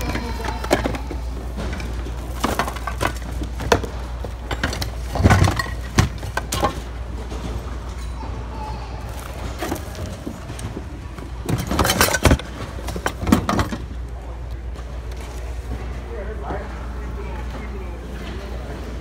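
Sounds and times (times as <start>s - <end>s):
goods rummaged in plastic bins: 0.0s - 19.0s.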